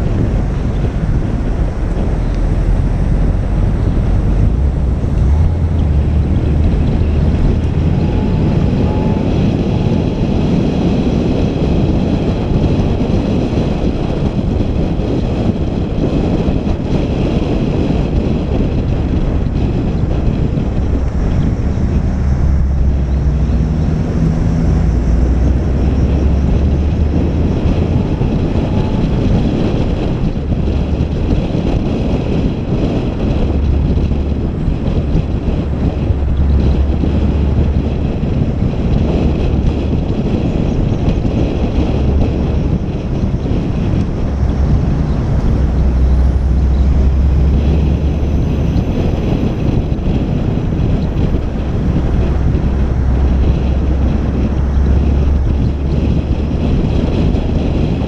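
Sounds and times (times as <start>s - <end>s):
vehicle engine and road noise: 0.0s - 58.0s
wind buffeting microphone: 0.0s - 58.0s.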